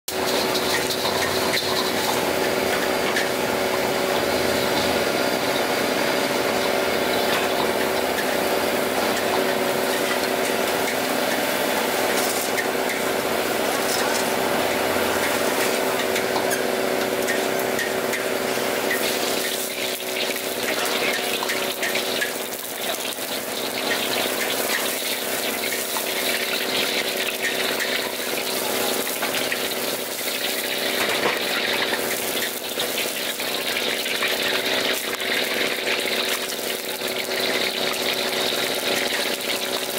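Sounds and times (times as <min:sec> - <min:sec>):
gas burner rushing: 0:00.1 - 0:39.9.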